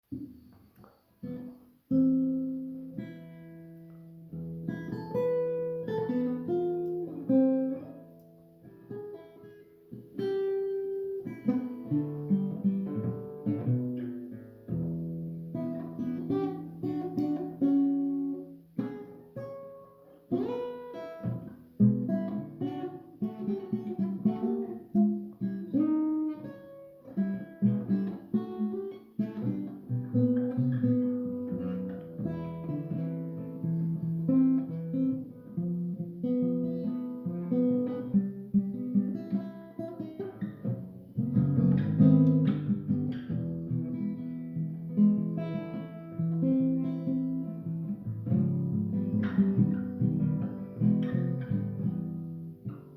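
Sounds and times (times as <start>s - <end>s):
solo guitar picking and strumming: 0.0s - 52.9s.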